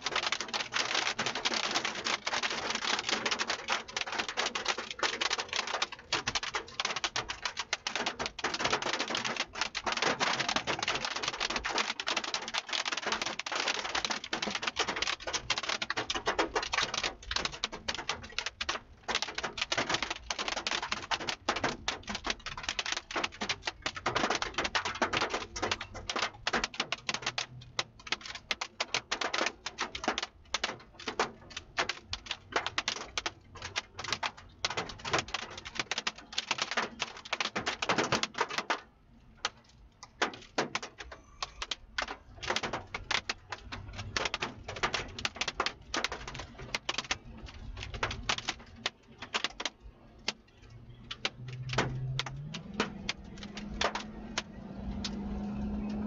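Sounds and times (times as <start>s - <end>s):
raindrops pattering on vehicle roof: 0.0s - 56.0s.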